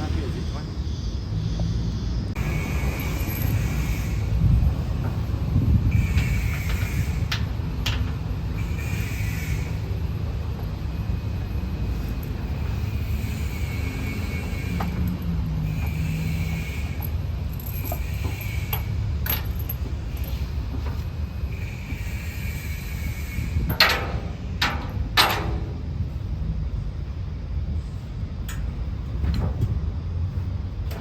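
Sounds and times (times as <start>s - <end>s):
truck engine rumbling: 0.0s - 31.0s.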